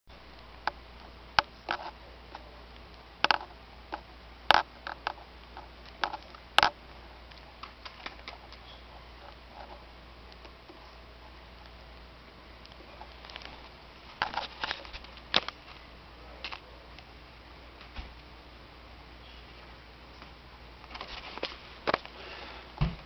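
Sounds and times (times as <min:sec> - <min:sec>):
faint low hum: 0:00.1 - 0:23.0.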